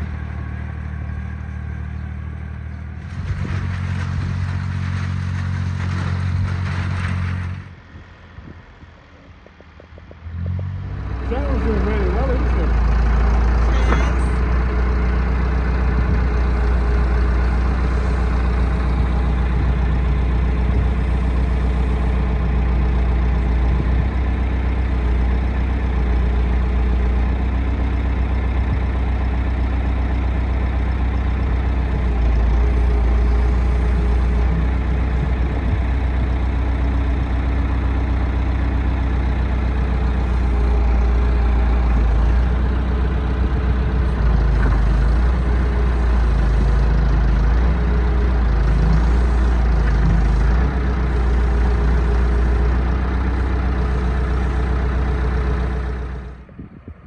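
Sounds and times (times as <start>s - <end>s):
heavy engine humming: 0.0s - 57.0s.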